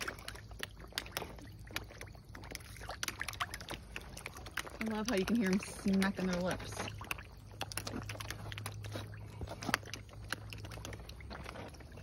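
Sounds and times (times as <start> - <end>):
fish smacking lips at water surface: 0.0 - 12.0.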